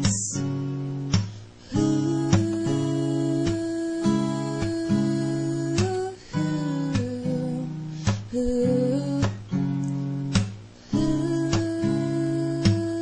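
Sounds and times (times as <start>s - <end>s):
acoustic guitar piece: 0.0s - 13.0s.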